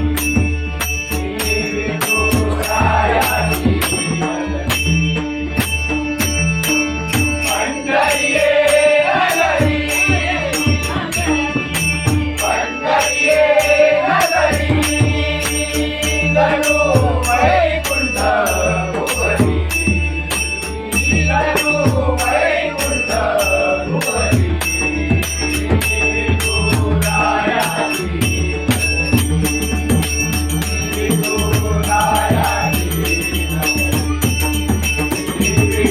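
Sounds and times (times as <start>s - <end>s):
held drone tone: 0.0s - 35.9s
jingling percussion beat: 0.0s - 35.9s
man singing devotional song: 1.0s - 5.1s, 7.4s - 35.9s.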